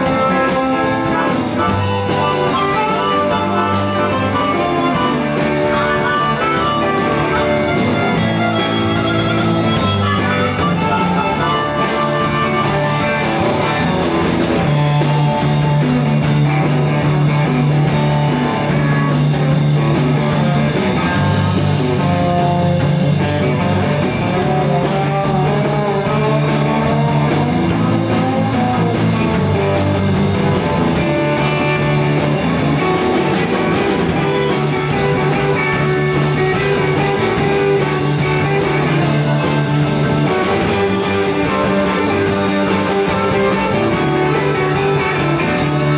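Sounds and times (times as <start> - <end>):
amplified harmonica: 0.0 - 45.9
drums: 0.0 - 45.9
electric guitars: 0.0 - 45.9
upright bass: 0.0 - 45.9.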